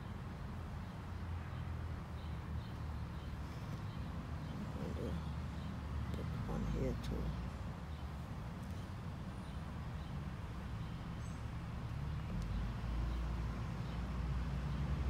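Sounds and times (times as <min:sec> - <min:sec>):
outdoor ambience rumble: 0:00.0 - 0:15.0.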